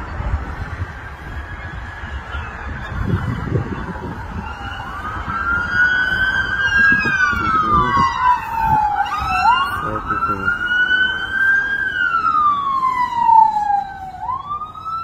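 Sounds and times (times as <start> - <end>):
police siren wailing: 0.0 - 15.0
traffic rumble: 0.0 - 15.0
wind rumble: 0.0 - 15.0.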